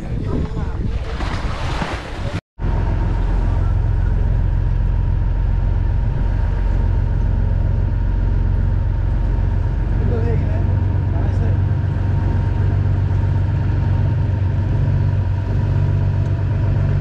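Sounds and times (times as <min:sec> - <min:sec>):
boat engine droning: 0:02.2 - 0:17.0.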